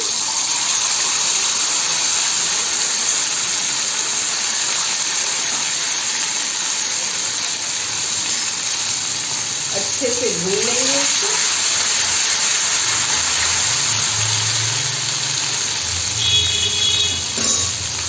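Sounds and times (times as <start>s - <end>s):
paste sizzling in hot oil: 0.0s - 18.0s.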